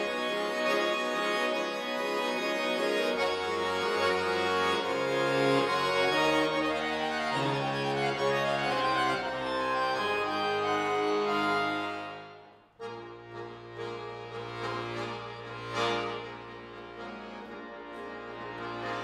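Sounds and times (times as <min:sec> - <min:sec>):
accordion chords: 0:00.0 - 0:19.0.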